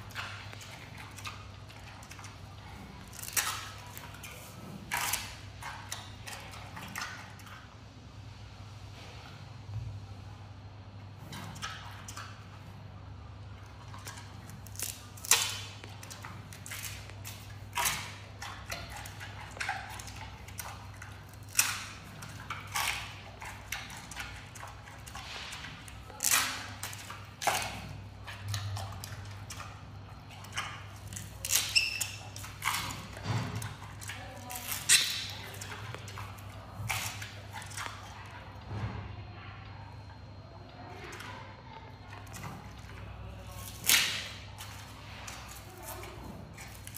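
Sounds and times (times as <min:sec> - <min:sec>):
panda chewing bamboo: 0:00.0 - 0:07.6, 0:13.6 - 0:38.6, 0:41.9 - 0:46.9.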